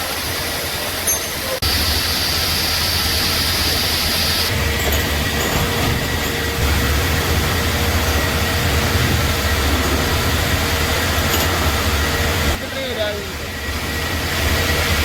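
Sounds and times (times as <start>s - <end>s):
workshop machine rumble: 1.6s - 15.0s.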